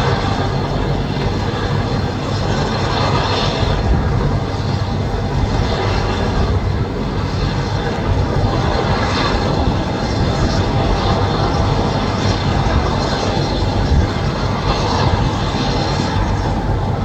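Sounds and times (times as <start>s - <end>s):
helicopter rotor drone: 0.0s - 17.0s
rushing turbine engines: 0.0s - 17.0s.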